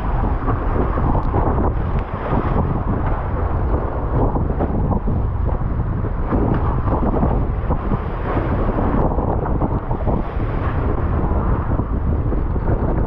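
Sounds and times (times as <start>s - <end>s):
boat rushing through water: 0.0s - 13.0s
wind buffeting microphone: 0.0s - 13.0s.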